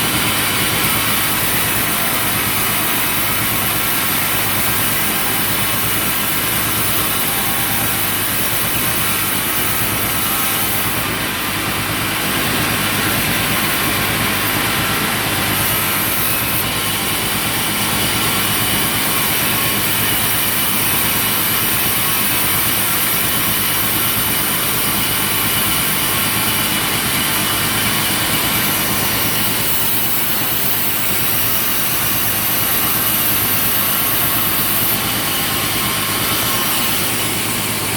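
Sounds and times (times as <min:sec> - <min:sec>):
sawmill machinery droning: 0:00.0 - 0:37.9.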